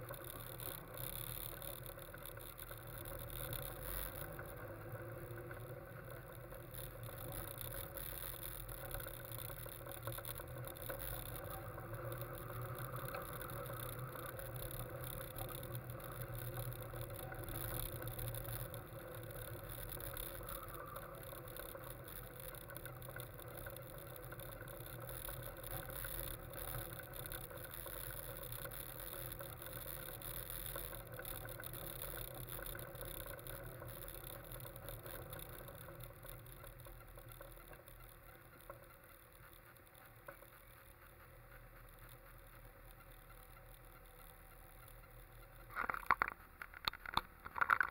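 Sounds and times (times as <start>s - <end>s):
road and wind noise: 0.0s - 38.9s
car engine running low hum: 0.0s - 46.6s.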